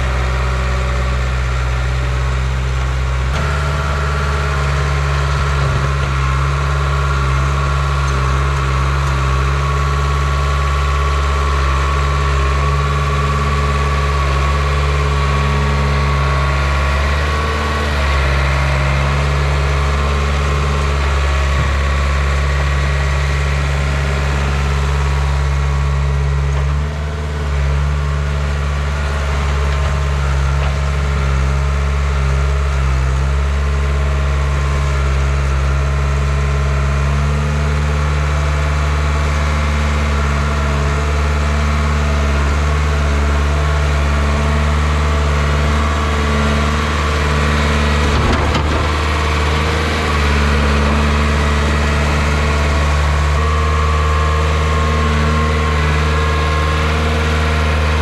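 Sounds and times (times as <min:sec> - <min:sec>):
diesel engine running: 0:00.0 - 0:58.0
loader pushing dirt: 0:00.0 - 0:58.0.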